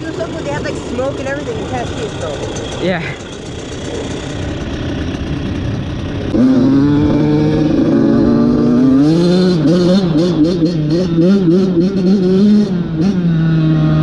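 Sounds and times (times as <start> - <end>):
off-road engine revving: 0.0 - 14.0.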